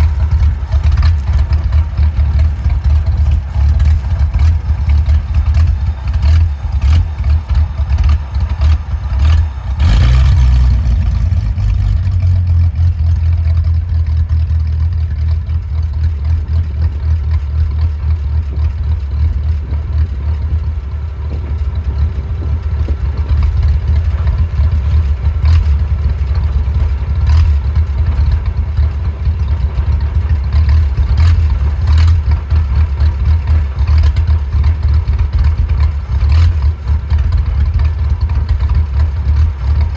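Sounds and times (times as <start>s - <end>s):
engine idling roughly: 0.0s - 39.9s.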